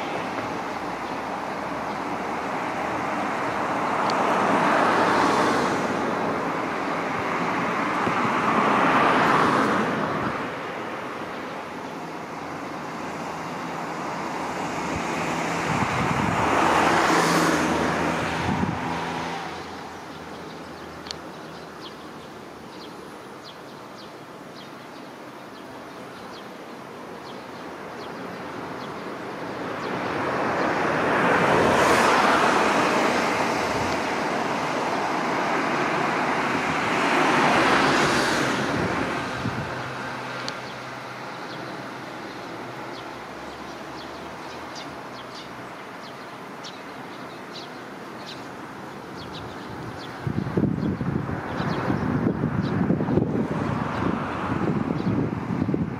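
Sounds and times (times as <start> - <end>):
vehicles passing: 0.0 - 55.9.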